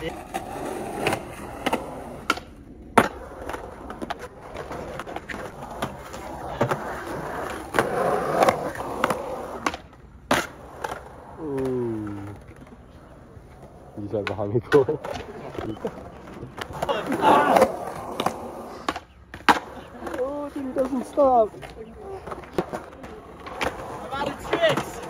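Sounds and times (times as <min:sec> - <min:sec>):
skateboard clacking on ground: 0:00.0 - 0:25.0
skateboard wheels rolling on concrete: 0:00.0 - 0:25.0.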